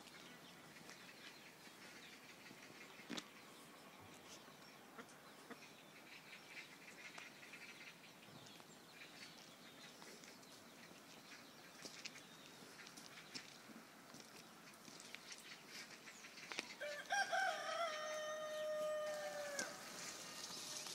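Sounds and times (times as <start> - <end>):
faint chicken sounds: 0.0 - 20.9.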